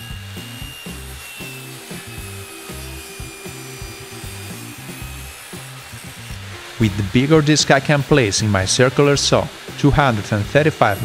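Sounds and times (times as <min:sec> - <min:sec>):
background music: 0:00.0 - 0:11.0
table saw cutting wood: 0:00.0 - 0:11.0.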